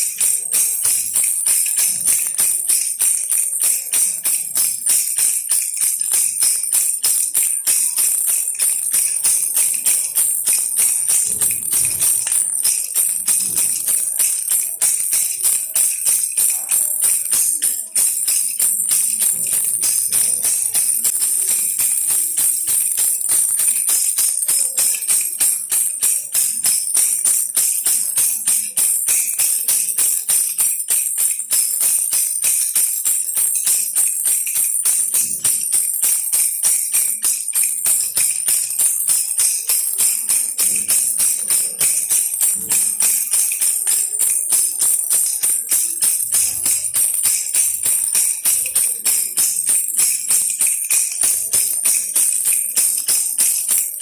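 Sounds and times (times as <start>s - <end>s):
baby rattle jingling: 0.0s - 54.0s.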